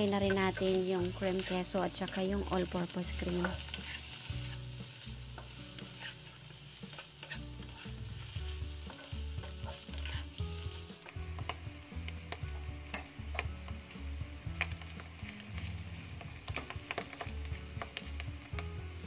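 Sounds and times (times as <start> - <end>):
wooden spatula scraping a wok: 0.0 - 18.6
frying sizzle: 0.0 - 19.0.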